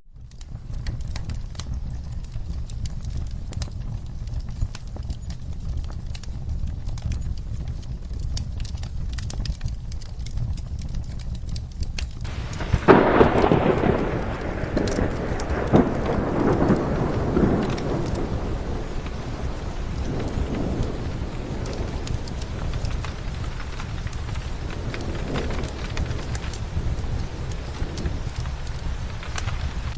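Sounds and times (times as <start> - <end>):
steady rain with light ticks: 0.1 - 29.9
thunderclap rolling: 0.2 - 29.9.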